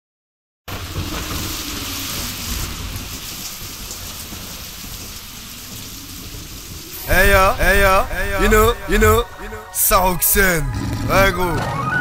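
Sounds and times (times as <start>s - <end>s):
steady rain: 0.7s - 11.6s
thunder rumbling: 0.7s - 12.0s.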